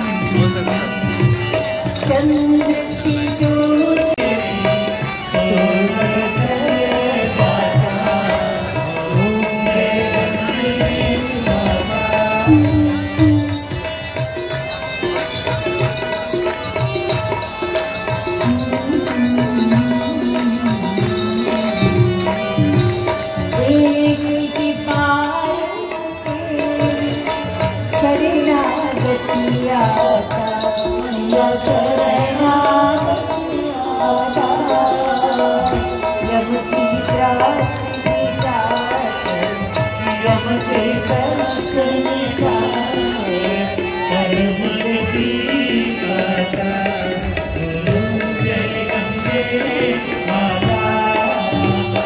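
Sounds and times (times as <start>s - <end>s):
tabla rhythm: 0.0s - 52.0s.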